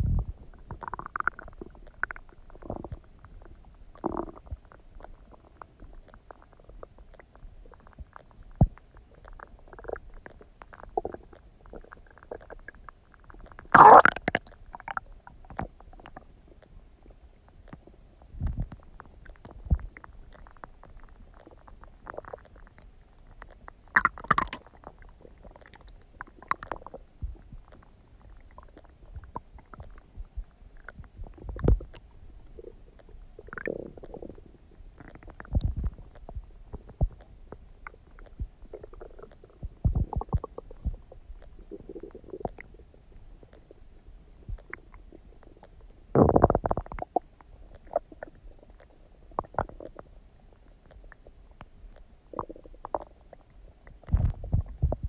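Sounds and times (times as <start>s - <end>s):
stomach gurgling and rumbling: 0.0s - 55.0s.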